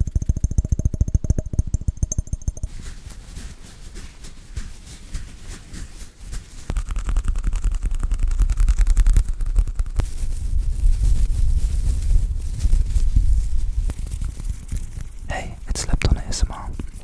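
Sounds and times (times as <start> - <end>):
rapid clicking and crackling: 0.0 - 11.3, 11.9 - 17.0.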